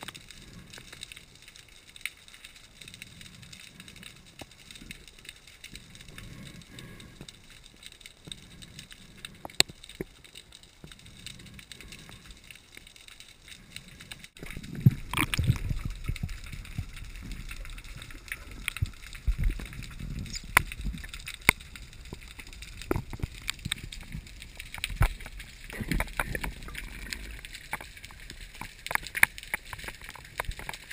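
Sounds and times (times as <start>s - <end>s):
rumbling water movement: 0.0s - 30.9s.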